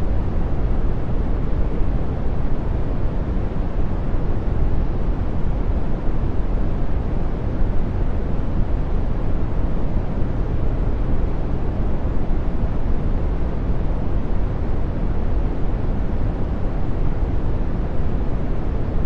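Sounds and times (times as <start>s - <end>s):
brown noise rush: 0.0s - 19.0s.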